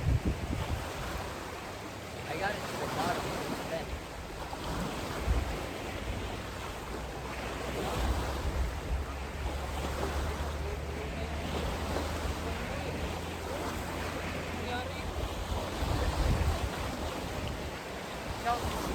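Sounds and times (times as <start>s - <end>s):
wind buffeting microphone: 0.0s - 1.8s, 4.0s - 18.9s
water lapping at shore: 0.0s - 18.9s.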